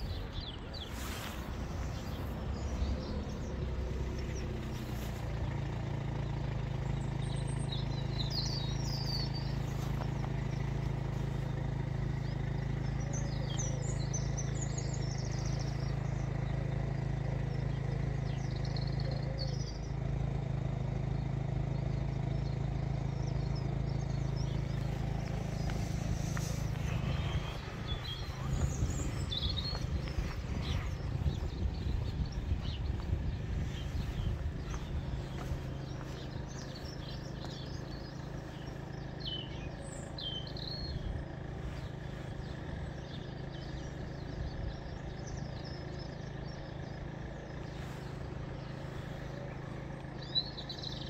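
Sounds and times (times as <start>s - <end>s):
low mechanical hum: 0.0s - 51.0s
small birds chirping: 0.0s - 51.0s.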